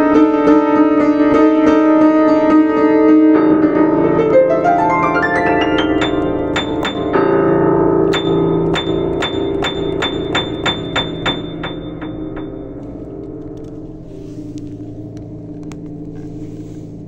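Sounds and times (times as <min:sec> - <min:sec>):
upright piano playing: 0:00.0 - 0:14.1.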